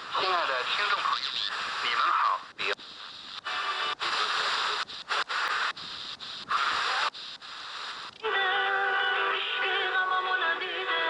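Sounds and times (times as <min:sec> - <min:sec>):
radio static hiss: 0:00.0 - 0:09.9
radio music with singing: 0:00.0 - 0:11.0.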